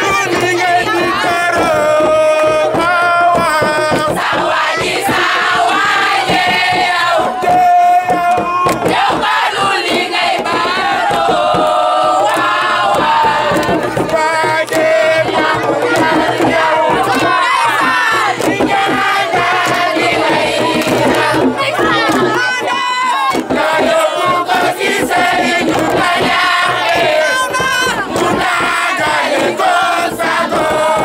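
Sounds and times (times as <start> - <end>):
crowd chanting and singing: 0.0 - 31.0
people shouting: 0.0 - 31.0.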